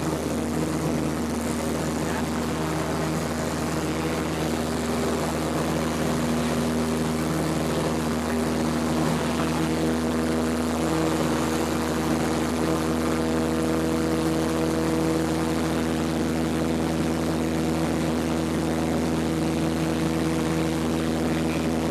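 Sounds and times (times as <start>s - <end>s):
propeller plane engine droning: 0.0s - 21.9s.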